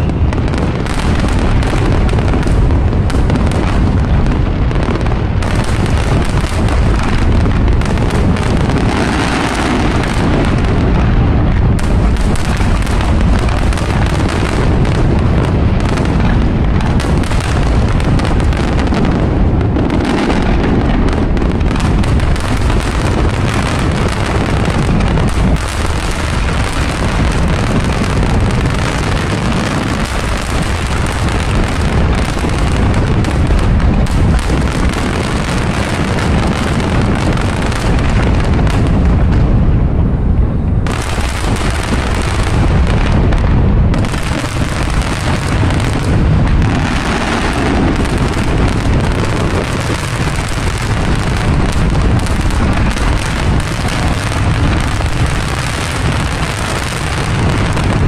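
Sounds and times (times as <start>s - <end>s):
fireworks exploding: 0.0s - 58.0s.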